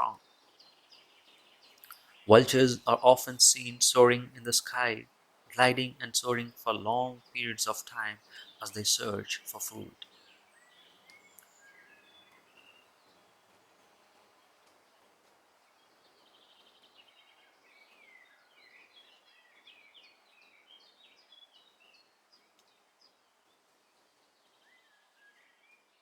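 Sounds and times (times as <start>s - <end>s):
small birds chirping and trilling: 0.0s - 26.0s
soft background hiss: 0.0s - 26.0s.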